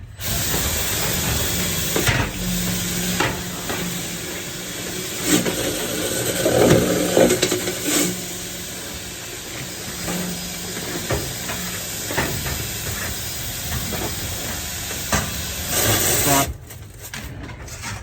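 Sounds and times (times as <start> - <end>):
knocks and rattles in vent duct: 0.0 - 16.0.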